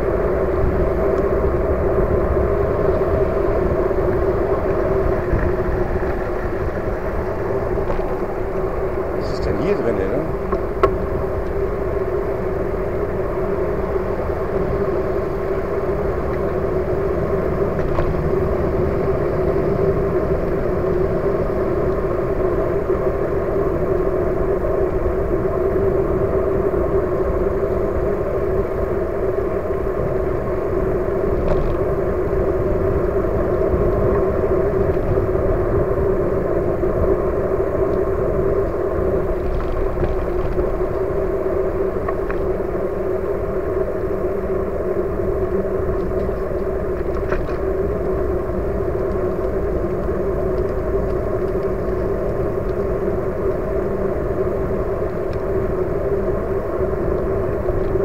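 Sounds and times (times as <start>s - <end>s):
constant low hum: 0.0s - 58.0s
wind and road noise: 0.0s - 58.0s.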